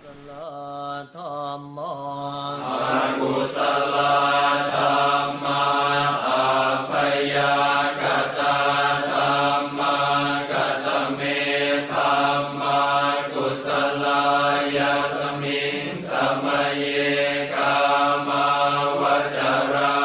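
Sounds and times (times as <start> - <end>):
voices chanting in unison: 0.0 - 20.0.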